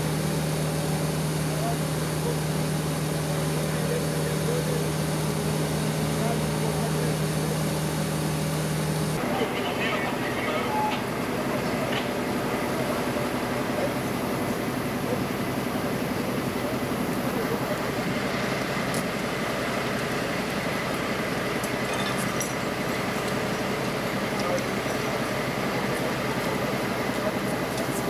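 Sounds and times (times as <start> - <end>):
fire engine droning: 0.0 - 28.0.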